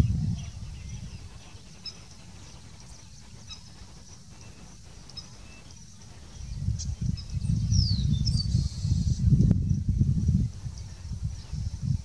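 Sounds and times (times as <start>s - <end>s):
distant small birds chirping: 0.0s - 12.0s
wind rumble on microphone: 0.0s - 12.0s.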